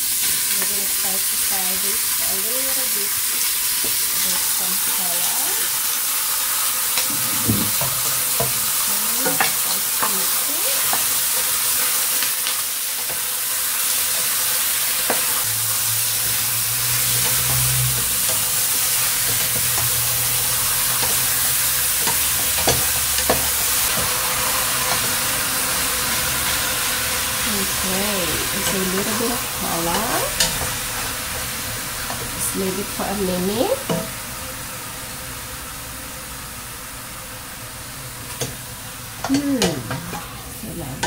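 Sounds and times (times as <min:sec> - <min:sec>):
meat sizzling in oil: 0:00.0 - 0:41.0.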